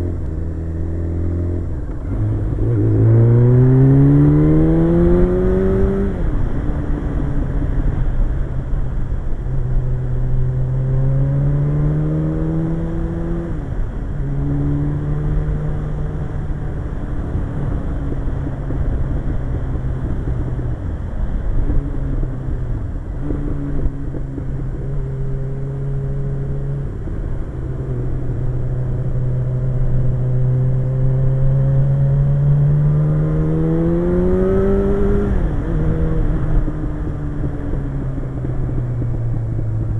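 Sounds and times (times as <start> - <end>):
motorcycle engine revving: 0.0 - 8.3, 9.6 - 39.9
wind rush over microphone: 0.0 - 39.9.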